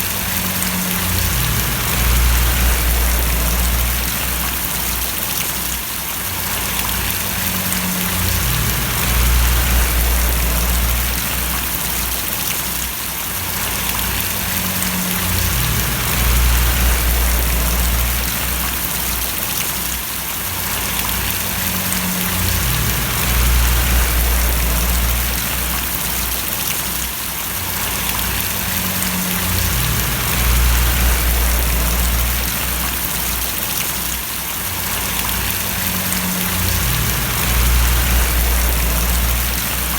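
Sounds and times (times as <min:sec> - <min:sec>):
low rumble: 0:00.0 - 0:05.2, 0:06.8 - 0:12.4, 0:13.7 - 0:19.3, 0:21.0 - 0:26.6, 0:27.9 - 0:33.6, 0:35.2 - 0:39.9
rain falling and splashing: 0:00.0 - 0:39.9.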